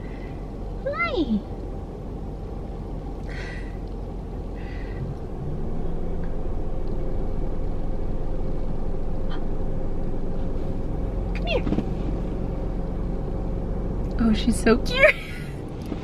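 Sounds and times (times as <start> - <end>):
faint steady hum: 0.0 - 16.0
vehicle engine rumble: 0.0 - 16.0.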